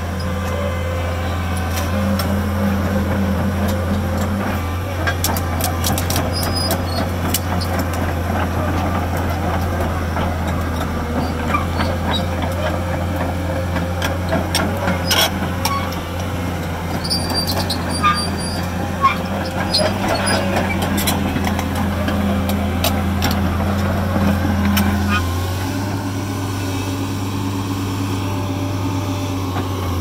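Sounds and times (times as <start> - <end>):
track chains clanking and squeaking: 0.0 - 25.5
diesel engine running under load: 0.0 - 30.0.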